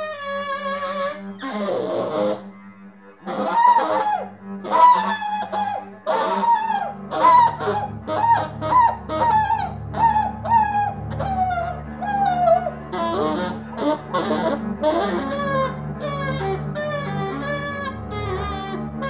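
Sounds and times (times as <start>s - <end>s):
bowed double bass: 0.0s - 19.0s
tenor saxophone: 0.0s - 19.0s.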